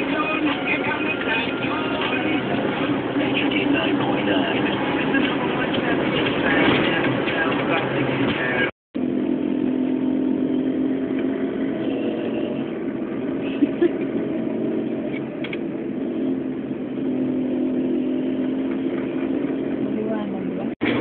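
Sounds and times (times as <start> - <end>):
street traffic: 0.0 - 21.0
vehicle engine running: 0.0 - 21.0.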